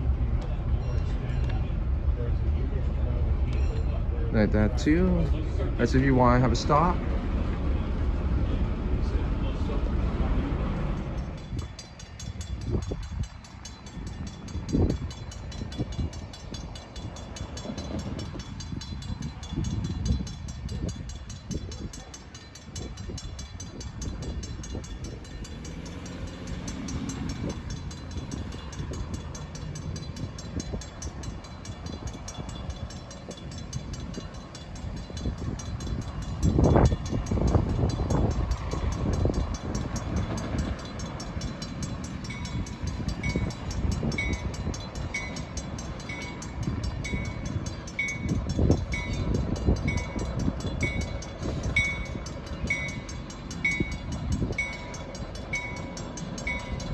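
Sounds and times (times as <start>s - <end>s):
train rumbling on rails: 0.0s - 56.9s
bell dinging: 10.9s - 56.9s.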